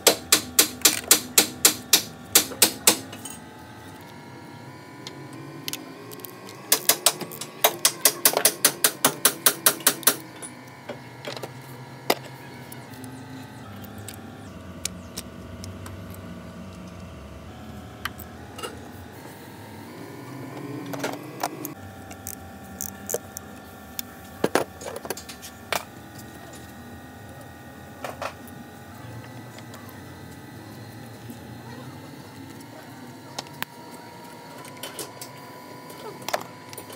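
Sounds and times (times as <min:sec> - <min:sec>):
steady mechanical hum: 0:00.0 - 0:36.9.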